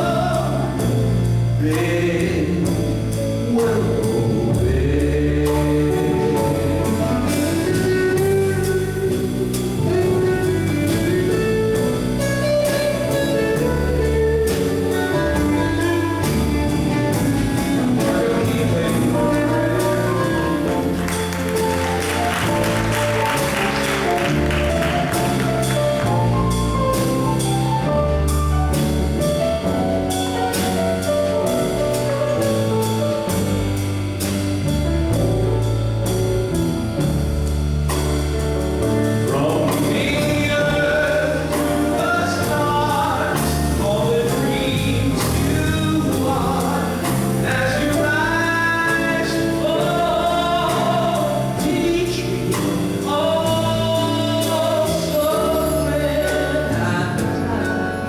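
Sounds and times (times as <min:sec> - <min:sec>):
band playing with bass and drums: 0:00.0 - 0:58.0.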